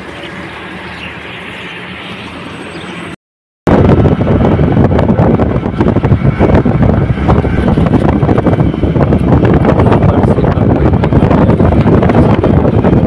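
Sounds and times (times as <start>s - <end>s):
road noise: 0.0s - 13.0s
roadside traffic noise: 0.0s - 13.0s
wind buffeting microphone: 0.0s - 13.0s.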